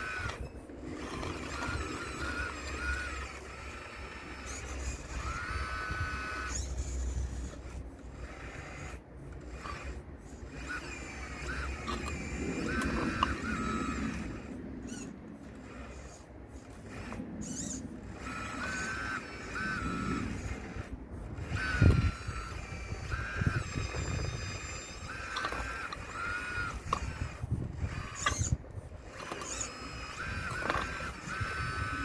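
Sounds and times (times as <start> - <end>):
toy motors whining: 0.0 - 32.0.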